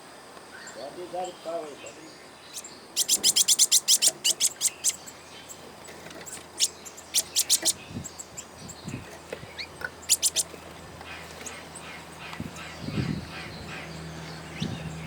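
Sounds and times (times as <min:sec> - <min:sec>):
bird chirping: 0:00.5 - 0:15.0.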